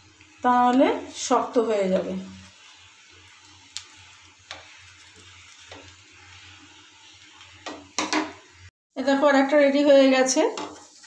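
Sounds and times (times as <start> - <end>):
crepe sizzling in frying pan: 0.0 - 8.7, 9.3 - 11.0.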